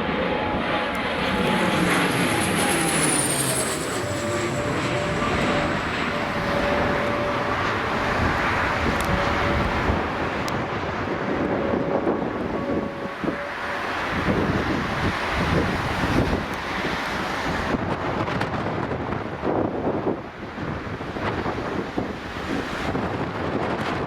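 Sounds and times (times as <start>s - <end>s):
jet engines roaring: 0.0s - 24.0s
strong wind: 0.0s - 24.0s.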